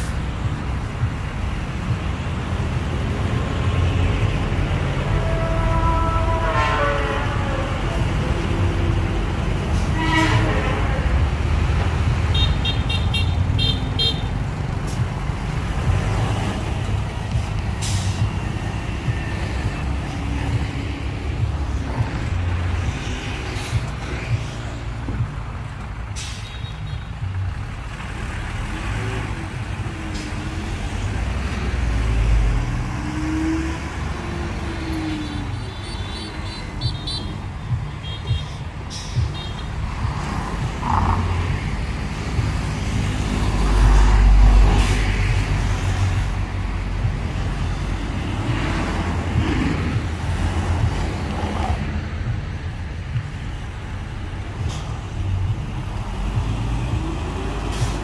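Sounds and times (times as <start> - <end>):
diesel construction machinery rumbling: 0.0 - 58.0.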